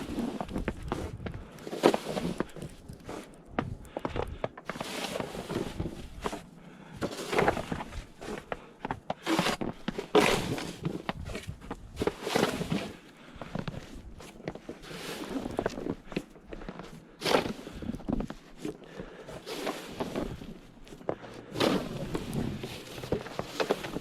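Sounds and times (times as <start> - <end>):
crunching and scraping in snow: 0.0 - 24.0.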